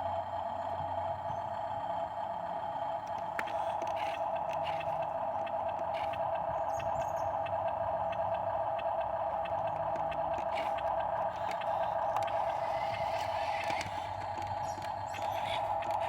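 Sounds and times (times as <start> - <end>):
electric motor whine: 3.0 - 16.0.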